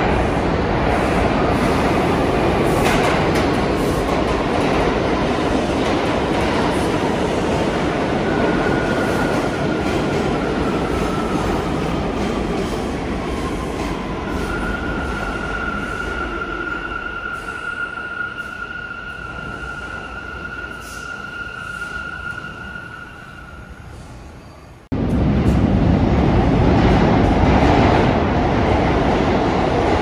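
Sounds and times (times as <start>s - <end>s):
subway train rumbling on rails: 0.0s - 30.0s.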